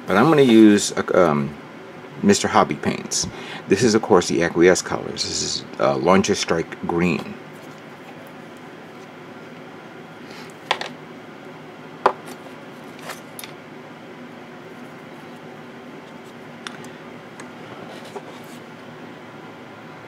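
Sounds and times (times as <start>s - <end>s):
steady low background noise: 0.0s - 20.0s.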